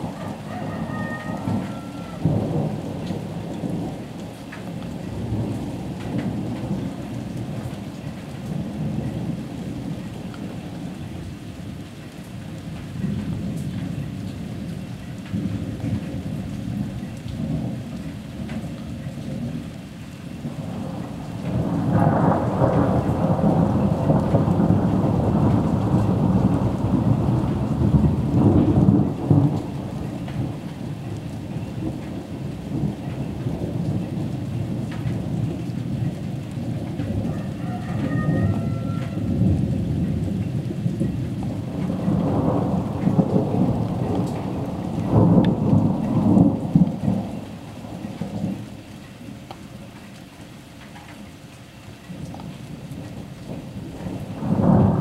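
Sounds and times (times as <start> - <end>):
thunder rumbling: 0.0 - 11.6, 12.5 - 50.0, 52.0 - 55.0
steady rain: 0.0 - 55.0.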